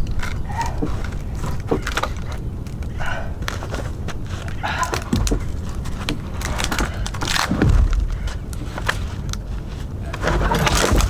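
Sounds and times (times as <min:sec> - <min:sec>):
dry brush crackling and snapping: 0:00.0 - 0:11.0.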